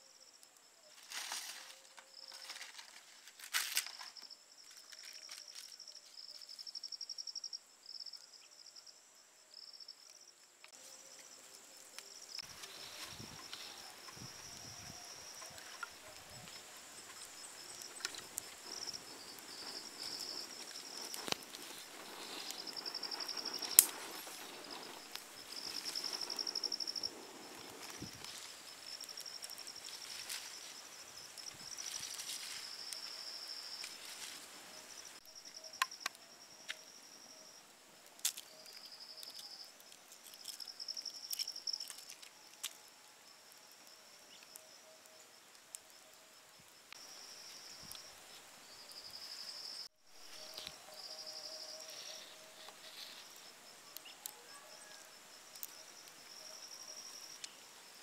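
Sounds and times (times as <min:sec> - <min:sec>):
insect chirring in pulsing trills: 0:00.0 - 0:58.0.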